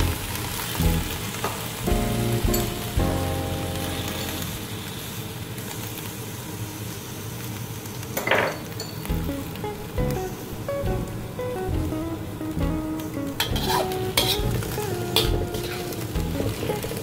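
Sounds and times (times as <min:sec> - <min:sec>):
spinach sizzling in a wok: 0:00.0 - 0:17.0.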